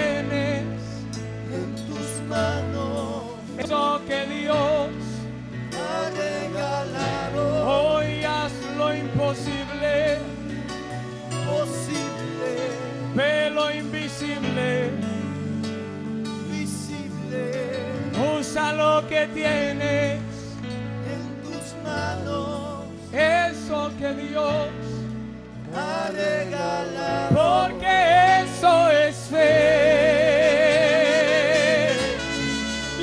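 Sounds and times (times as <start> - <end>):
men singing with vibrato: 0.0 - 15.6, 16.3 - 33.0
band playing gospel music: 0.0 - 33.0.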